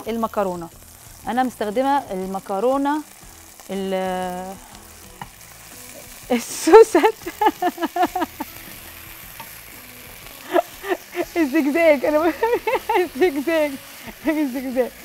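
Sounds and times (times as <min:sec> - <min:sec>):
pasta sizzling in a pan: 0:00.0 - 0:15.0.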